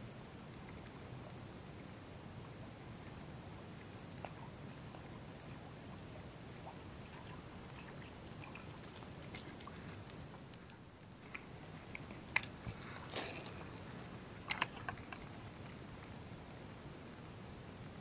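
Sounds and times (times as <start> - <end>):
faint steady background noise: 0.0 - 18.0.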